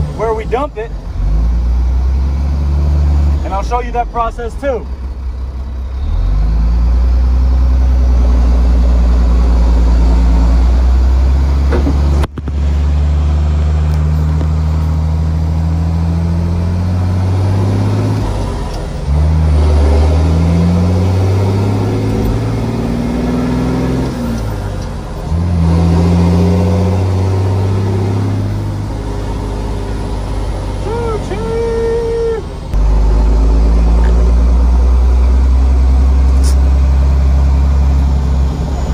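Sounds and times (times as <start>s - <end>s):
truck engine shifting gears: 0.0s - 38.9s.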